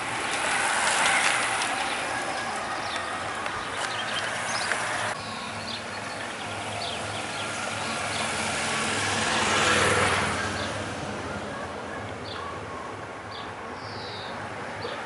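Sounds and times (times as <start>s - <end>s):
car engine: 0.0s - 12.2s
cyclists passing: 0.0s - 15.0s.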